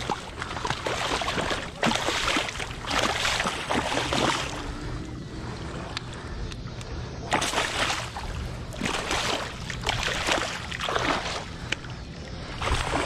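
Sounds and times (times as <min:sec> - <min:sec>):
fish splashing in shallow water: 0:00.0 - 0:13.0.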